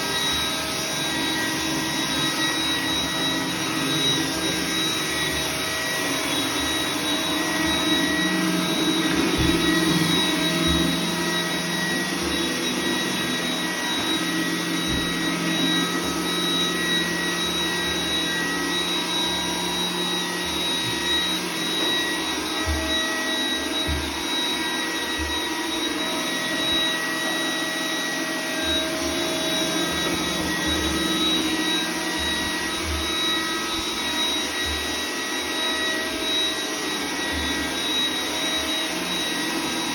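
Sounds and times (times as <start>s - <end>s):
robot vacuum motor whine: 0.0s - 39.9s.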